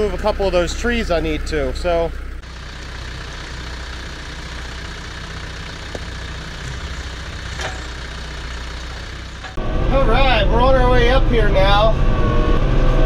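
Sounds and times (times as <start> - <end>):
tractor diesel engine idling: 0.0 - 11.8.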